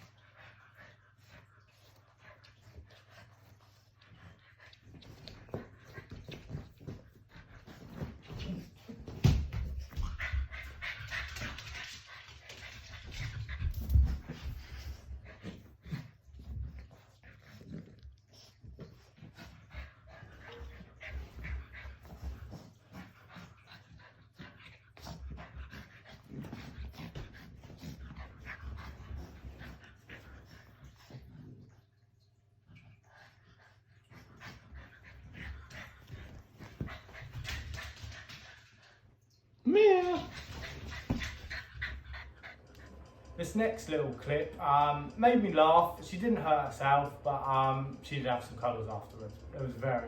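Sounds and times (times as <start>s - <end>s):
puppy making small noises: 1.2s - 45.8s.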